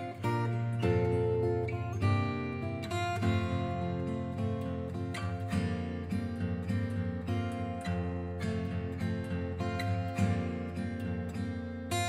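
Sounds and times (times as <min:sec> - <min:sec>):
acoustic guitar playing chords: 0:00.0 - 0:12.0.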